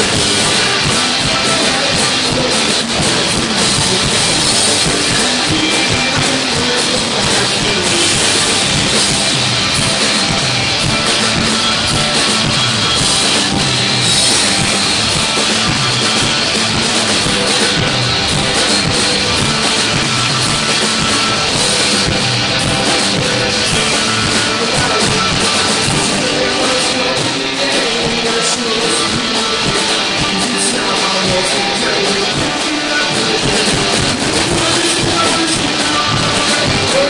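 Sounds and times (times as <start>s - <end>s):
drum kit playing: 0.0s - 37.0s
electric guitar strumming: 0.0s - 37.0s.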